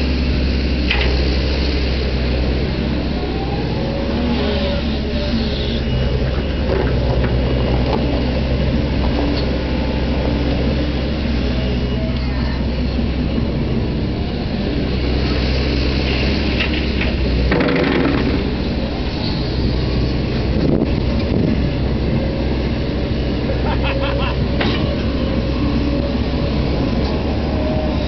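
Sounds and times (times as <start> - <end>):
excavator diesel engine: 0.0 - 28.0.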